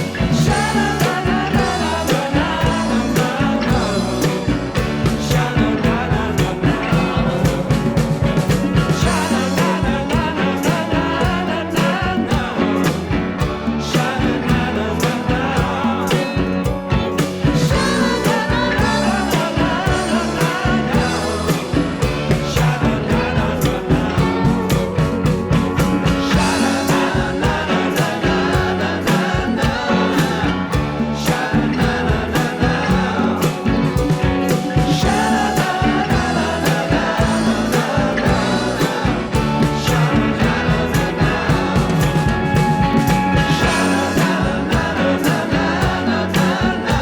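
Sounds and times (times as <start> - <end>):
song with sung vocals: 0.0 - 47.0.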